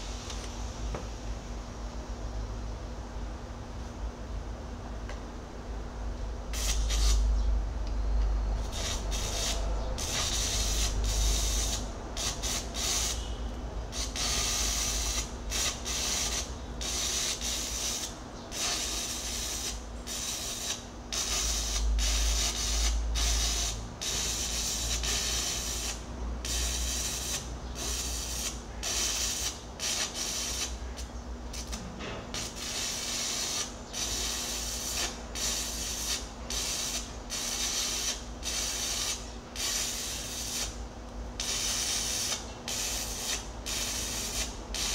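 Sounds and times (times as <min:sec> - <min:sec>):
welding arc crackling hiss: 0:00.0 - 0:01.0, 0:06.5 - 0:07.3, 0:08.6 - 0:40.8, 0:41.4 - 0:44.9.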